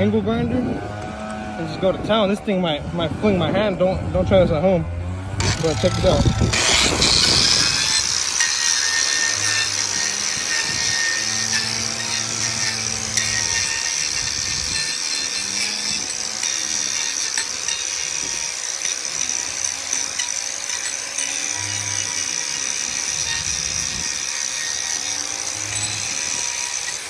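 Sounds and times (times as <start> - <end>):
angle grinder grinding wood: 0.0 - 27.0.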